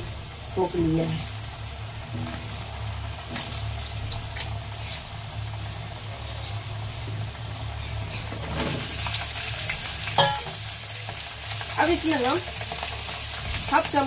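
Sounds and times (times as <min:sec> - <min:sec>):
oil crackling and popping: 0:00.0 - 0:07.3, 0:08.3 - 0:14.0
potatoes sizzling in hot oil: 0:00.0 - 0:14.0.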